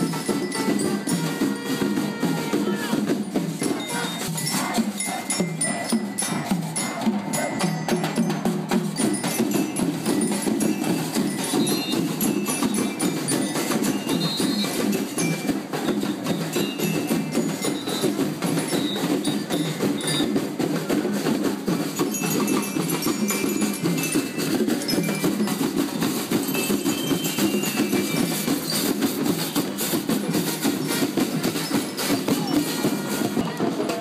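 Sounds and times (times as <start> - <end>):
bass drum beats: 0.0 - 34.0
drum band playing: 0.0 - 34.0.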